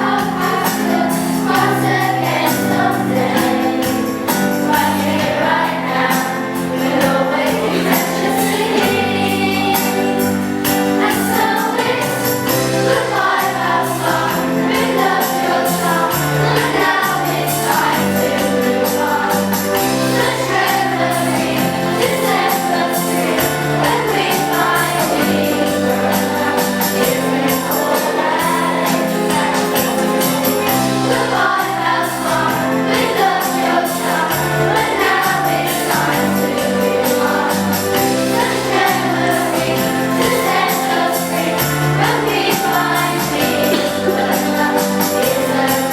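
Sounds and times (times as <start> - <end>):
group of voices singing: 0.0 - 45.9
instrumental accompaniment with beat: 0.0 - 45.9.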